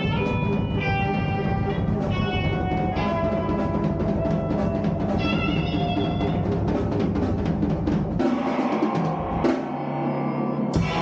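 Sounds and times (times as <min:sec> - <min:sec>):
bass guitar: 0:00.0 - 0:08.2, 0:10.2 - 0:11.0
drum kit: 0:00.0 - 0:11.0
electric guitar: 0:00.0 - 0:11.0.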